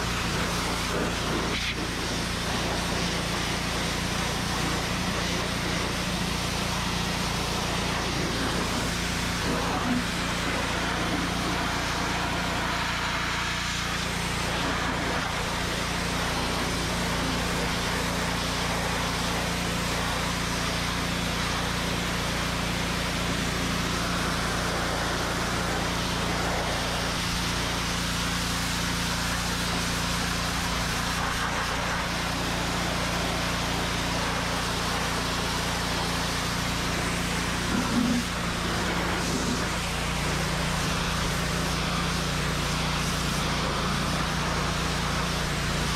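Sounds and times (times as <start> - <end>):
high-pressure water jet hissing: 0.0 - 45.9
pressure washer engine running: 0.0 - 45.9.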